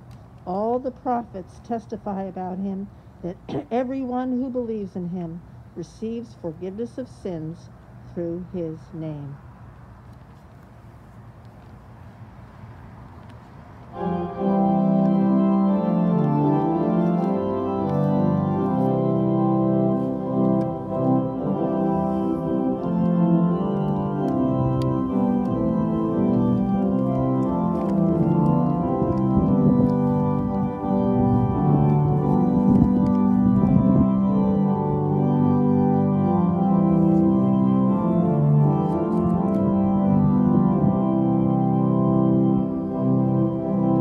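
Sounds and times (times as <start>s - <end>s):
organ playing sustained chords: 0.0s - 9.4s, 12.5s - 44.0s.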